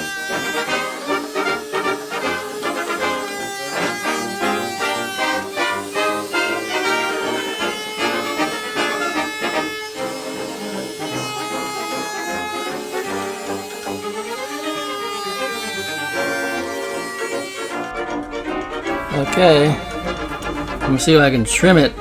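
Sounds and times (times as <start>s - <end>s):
lively brass music: 0.0s - 22.0s.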